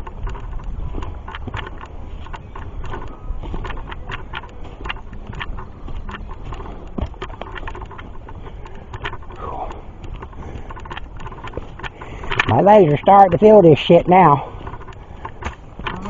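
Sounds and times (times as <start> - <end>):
footsteps on dirt trail: 0.0 - 16.0
low wind rumble: 0.0 - 16.0.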